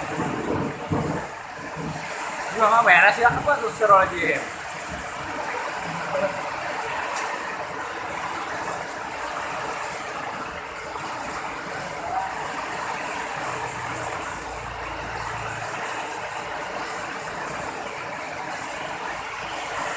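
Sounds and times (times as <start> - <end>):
heavy rain in wind: 0.0 - 19.9.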